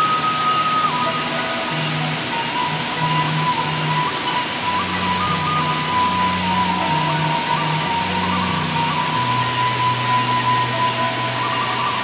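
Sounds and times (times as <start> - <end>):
held melody note: 0.0 - 12.0
low sustained bass notes: 0.0 - 12.0.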